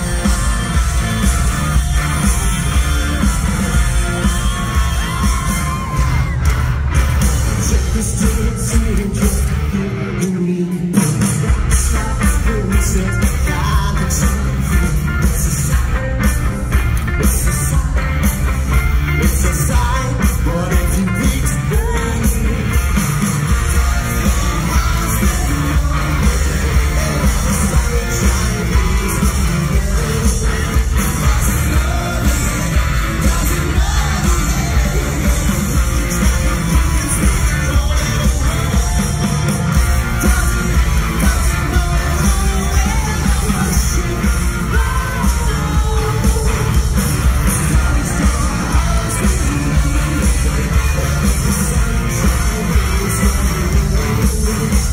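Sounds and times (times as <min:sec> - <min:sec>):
bass guitar: 0:00.0 - 0:54.9
drums: 0:00.0 - 0:54.9
electric guitar: 0:00.0 - 0:54.9
lead vocalist singing: 0:00.0 - 0:54.9
live rock band playing: 0:00.0 - 0:54.9.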